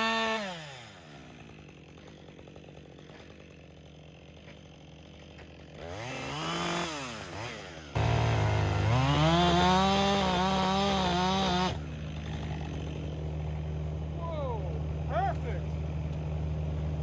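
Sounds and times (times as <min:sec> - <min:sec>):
chainsaw engine idling and revving: 0:00.0 - 0:17.0.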